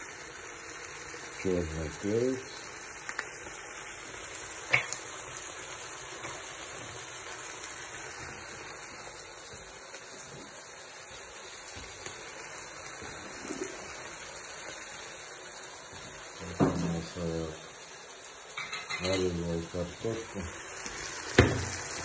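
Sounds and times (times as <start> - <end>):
beef sizzling in a pan: 0.0 - 22.0.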